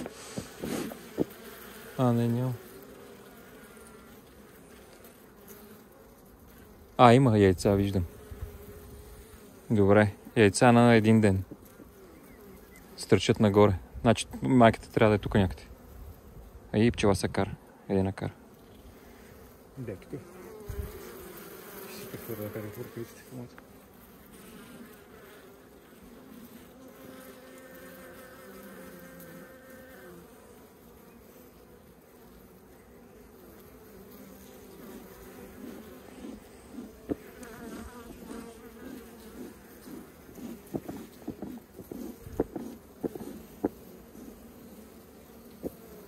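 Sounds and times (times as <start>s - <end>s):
honeybees buzzing: 0.0s - 46.0s.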